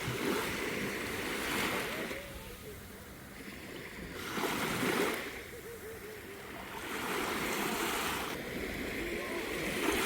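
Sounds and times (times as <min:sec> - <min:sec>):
small sea waves washing in: 0:00.0 - 0:10.0.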